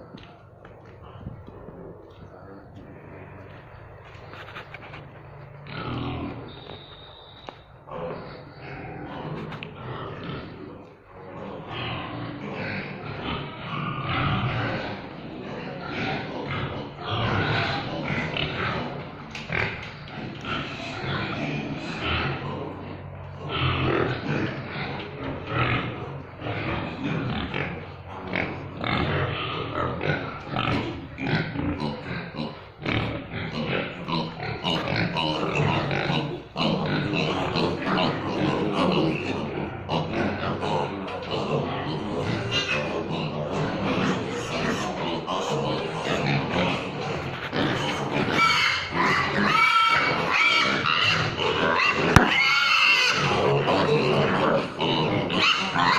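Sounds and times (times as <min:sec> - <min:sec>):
pigs grunting: 0:00.0 - 0:06.7, 0:07.8 - 0:55.9.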